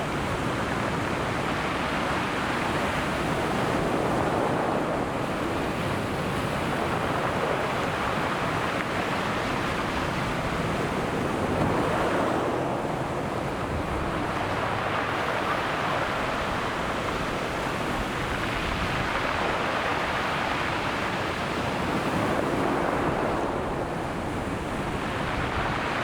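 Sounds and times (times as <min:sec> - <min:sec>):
ocean surf breaking on shore: 0:00.0 - 0:26.0.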